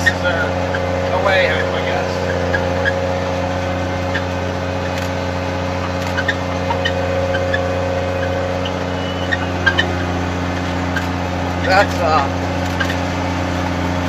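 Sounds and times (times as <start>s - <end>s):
engine droning under load: 0.0s - 14.0s.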